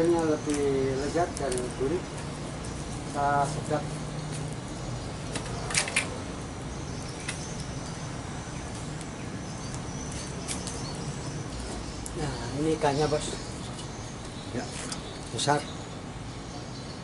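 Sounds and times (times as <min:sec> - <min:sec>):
fire hissing and crackling: 0:00.0 - 0:05.3, 0:06.2 - 0:15.7.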